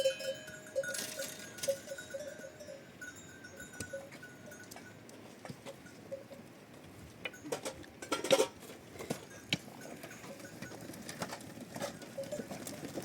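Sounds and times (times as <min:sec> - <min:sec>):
livestock bells clinking: 0:00.0 - 0:06.4, 0:07.2 - 0:13.0.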